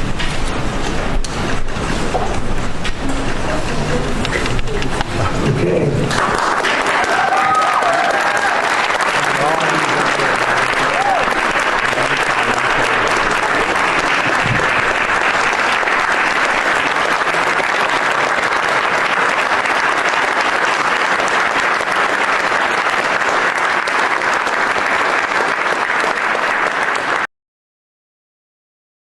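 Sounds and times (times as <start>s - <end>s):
crowd applauding: 3.0s - 27.3s.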